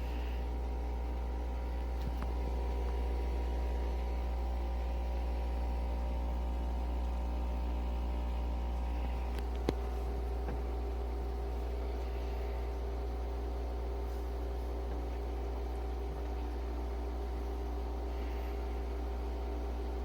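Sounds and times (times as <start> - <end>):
coffee machine motor humming: 0.0 - 20.0.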